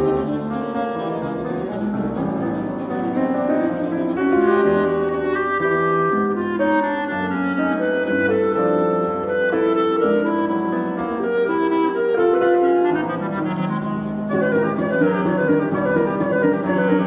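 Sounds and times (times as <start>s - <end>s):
clarinet melody: 0.0s - 17.0s
flute fast repeated figures: 0.0s - 17.0s
piano chords: 0.0s - 17.0s
repeated viola notes: 0.0s - 17.0s.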